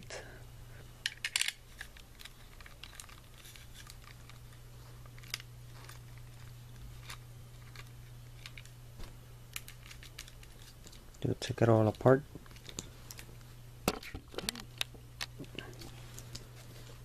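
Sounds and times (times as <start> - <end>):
steady low hum: 0.0 - 17.0
plastic parts being handled: 1.0 - 17.0.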